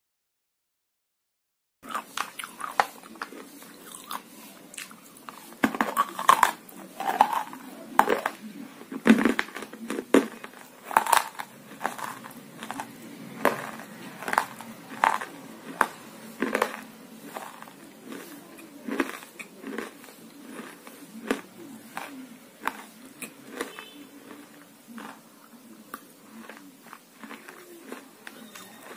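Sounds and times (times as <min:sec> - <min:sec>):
crunching and chewing food: 0:01.8 - 0:28.9.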